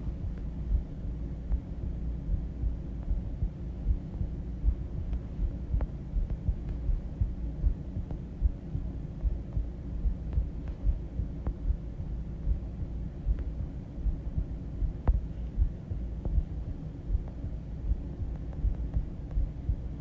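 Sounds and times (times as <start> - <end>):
heartbeat: 0.0 - 20.0
low rumble: 0.0 - 20.0.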